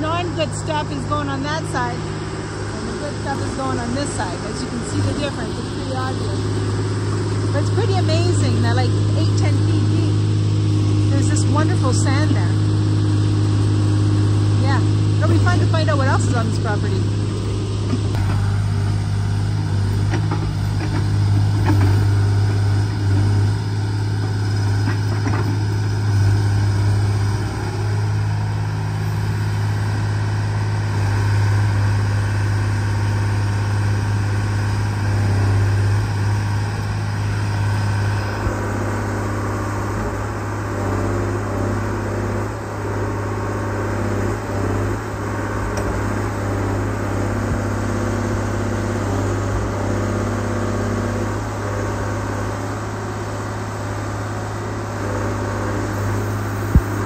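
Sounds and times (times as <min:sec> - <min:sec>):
excavator diesel engine droning: 0:00.0 - 0:57.0.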